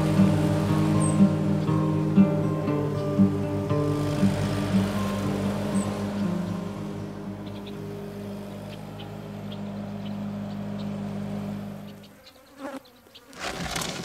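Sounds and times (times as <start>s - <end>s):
lawn tractor engine running: 0.0s - 12.1s.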